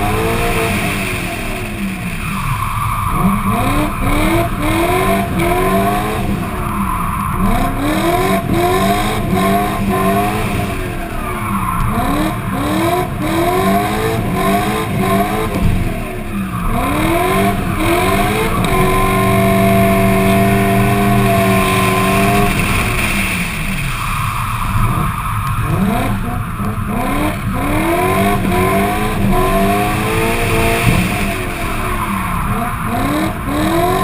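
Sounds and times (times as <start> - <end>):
car engine revving hard: 0.0 - 34.0.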